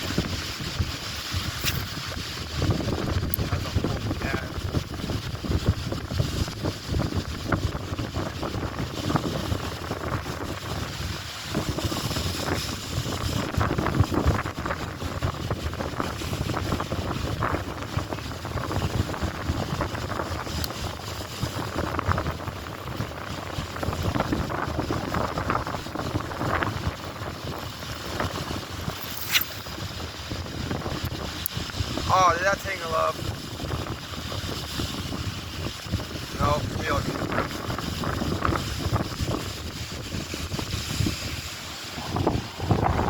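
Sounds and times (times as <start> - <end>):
waves splashing against shore: 0.0 - 43.0
wind buffeting microphone: 0.0 - 43.0.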